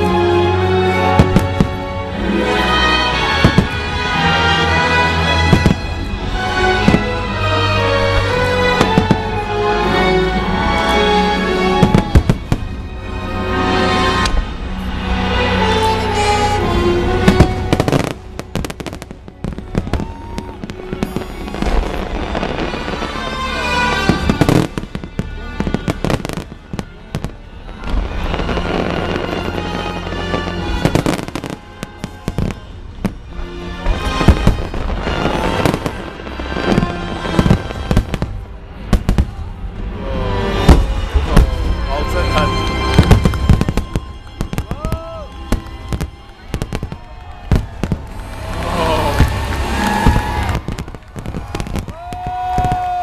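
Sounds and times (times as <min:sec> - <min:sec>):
fireworks bangs and crackles: 0:00.0 - 0:53.0
orchestral music over loudspeakers: 0:00.0 - 0:53.0.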